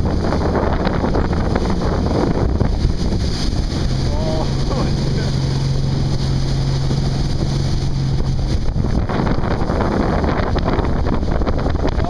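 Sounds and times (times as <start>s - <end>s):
jet boat engine drone: 0.0s - 12.0s
rushing water and splashing spray: 0.0s - 12.0s
wind buffeting microphone: 0.0s - 12.0s.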